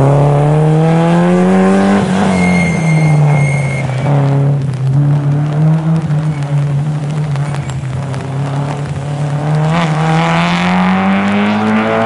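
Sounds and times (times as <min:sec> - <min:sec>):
hiss of spray and rain: 0:00.0 - 0:12.0
rally car engine at high revs: 0:00.0 - 0:12.0.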